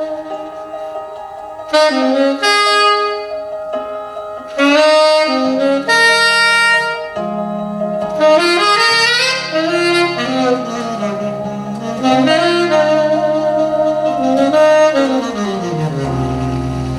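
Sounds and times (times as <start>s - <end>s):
held low notes: 0.0s - 16.9s
saxophone playing slow melody: 0.0s - 16.9s.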